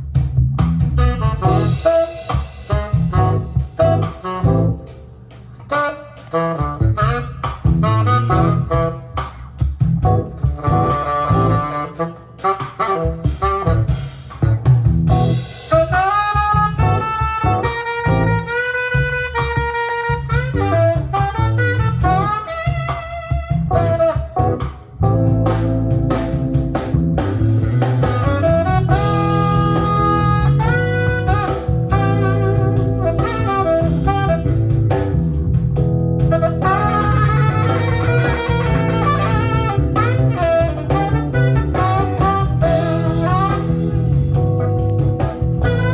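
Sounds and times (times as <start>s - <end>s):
jazz music from cassette: 0.0s - 45.9s.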